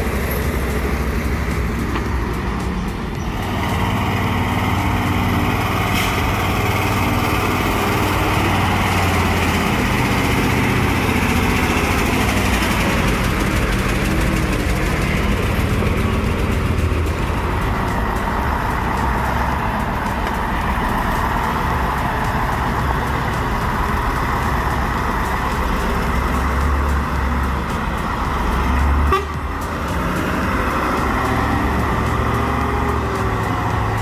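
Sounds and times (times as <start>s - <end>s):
heavy truck engine running: 0.0s - 34.0s.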